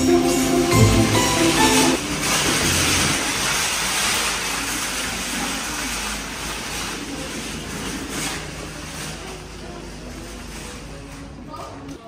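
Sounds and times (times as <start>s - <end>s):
shopping trolley rattling: 0.0s - 11.9s.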